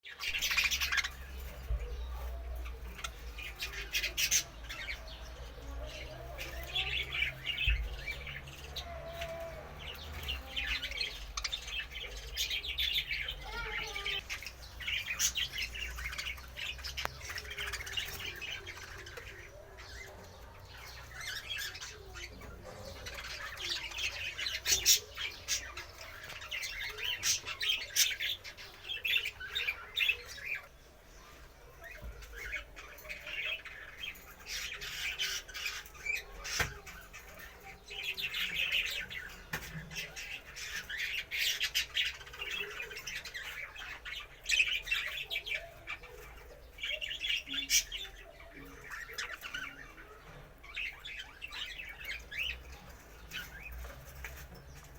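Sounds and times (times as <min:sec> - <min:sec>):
caged birds chirping and squawking: 0:00.0 - 0:54.9.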